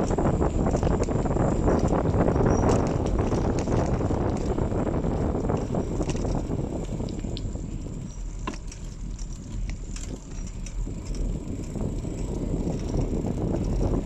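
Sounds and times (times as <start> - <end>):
bicycle tyre noise: 0.0 - 14.0
bike clicks and rattles: 0.0 - 14.0
wind on microphone: 0.0 - 14.0.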